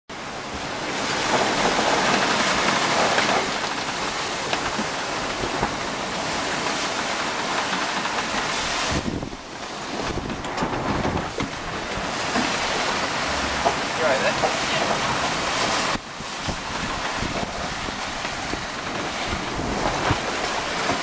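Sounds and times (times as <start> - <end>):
water rushing along boat hull: 0.1 - 21.0
wind gusting over microphone: 0.2 - 21.0.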